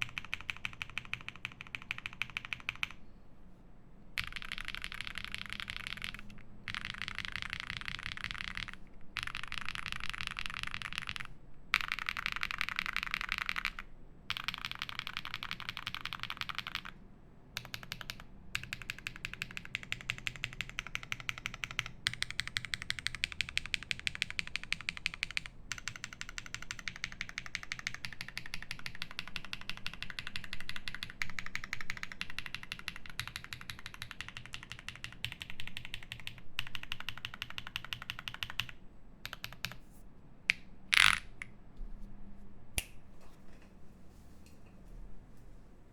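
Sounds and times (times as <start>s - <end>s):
mechanical keyboard typing: 0.0s - 3.0s, 4.2s - 17.0s, 17.6s - 39.8s, 40.5s - 41.4s.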